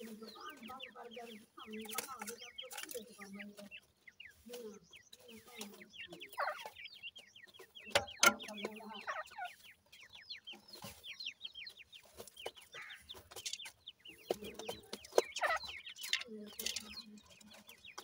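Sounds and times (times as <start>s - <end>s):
bird chicks peeping: 0.0s - 18.0s.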